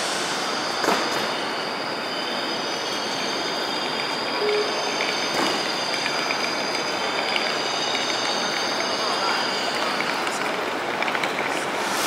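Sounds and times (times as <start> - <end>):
high-pitched rail squeal: 0.0 - 10.0
station background noise: 0.0 - 12.0.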